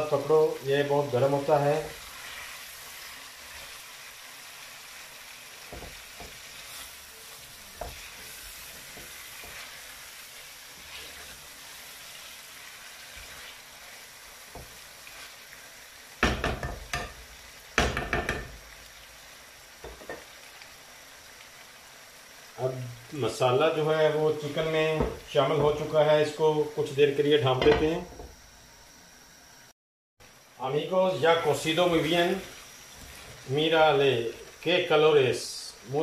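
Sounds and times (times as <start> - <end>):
chicken sizzling in clay pot: 0.0 - 29.1, 30.2 - 36.0.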